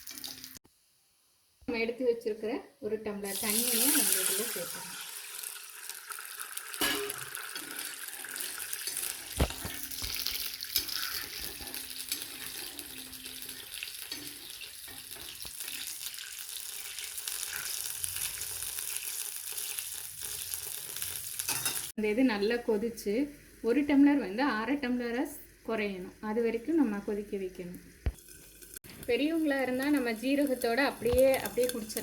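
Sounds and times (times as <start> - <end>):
water sizzling in hot pan: 0.0 - 0.6, 3.2 - 22.0, 23.4 - 32.0.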